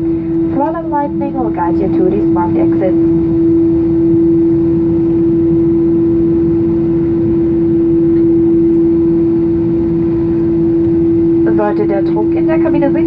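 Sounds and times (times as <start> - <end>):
aircraft cabin engine hum: 0.0 - 13.0.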